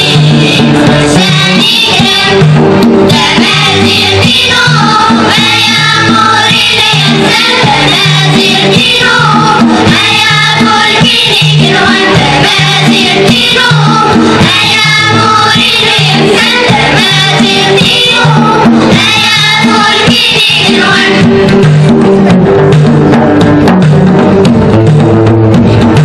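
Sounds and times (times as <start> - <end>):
children's choir singing: 0.0 - 21.7
banjo: 0.0 - 26.0
hand drum: 0.0 - 26.0
steady beat: 0.0 - 26.0.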